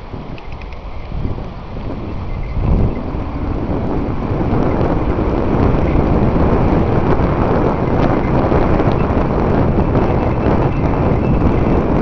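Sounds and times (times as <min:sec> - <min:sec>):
bike tyres rolling on gravel: 0:00.0 - 0:12.0
wind buffeting microphone: 0:00.0 - 0:12.0.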